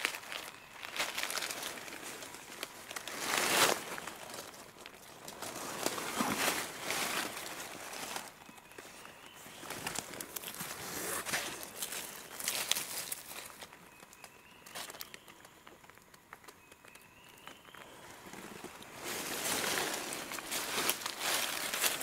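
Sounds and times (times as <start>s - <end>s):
footsteps crunching dry leaves: 0.0s - 15.5s, 17.6s - 22.0s.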